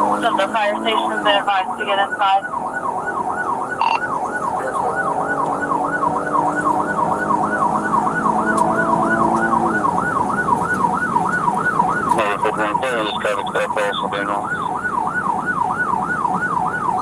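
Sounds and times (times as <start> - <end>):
police siren yelping: 0.0 - 17.0.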